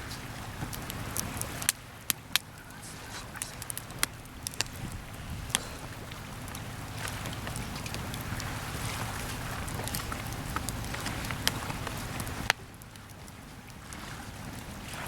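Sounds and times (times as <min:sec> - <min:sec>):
campfire crackling and popping: 0:00.0 - 0:15.0
waves on the shore: 0:00.0 - 0:15.0.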